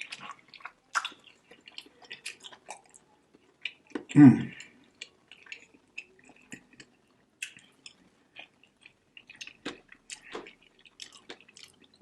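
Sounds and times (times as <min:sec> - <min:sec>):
chewing with wet smacking: 0:00.0 - 0:12.0.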